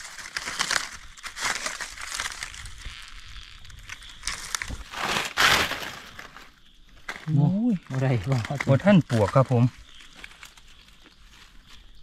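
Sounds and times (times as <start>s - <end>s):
dry leaves crackling and rustling: 0.0s - 12.0s.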